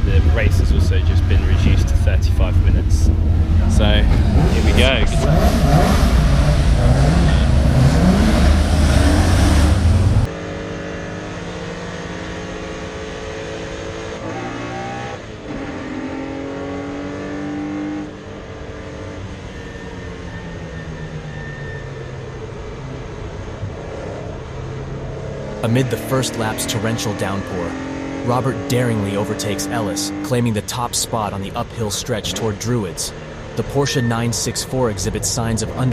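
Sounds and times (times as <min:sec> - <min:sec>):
onboard racing engine revving: 0:00.0 - 0:21.8, 0:23.7 - 0:35.9
racing car engines accelerating: 0:00.0 - 0:35.9.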